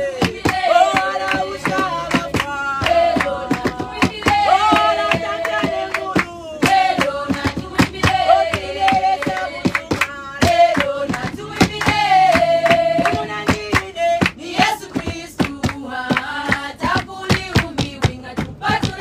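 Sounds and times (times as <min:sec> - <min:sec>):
rhythmic hand clapping: 0:00.0 - 0:19.0
women singing unaccompanied: 0:00.0 - 0:19.0.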